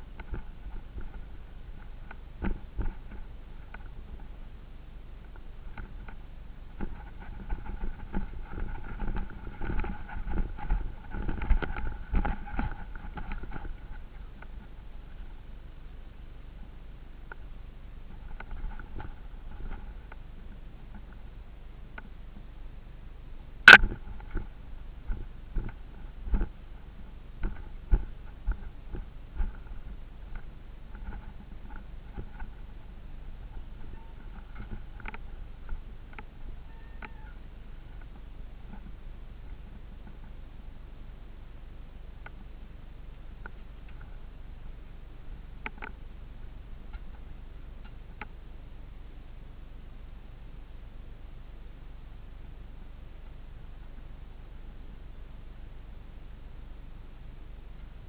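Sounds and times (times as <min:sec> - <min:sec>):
off-road vehicle rumbling: 0:00.0 - 0:58.0
steady whine: 0:00.0 - 0:58.0.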